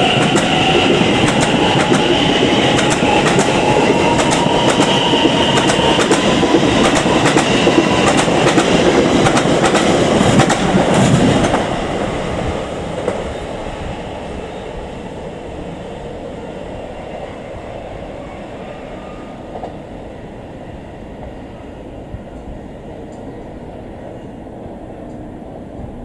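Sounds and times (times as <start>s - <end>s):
electric train running over rails: 0.0s - 23.4s.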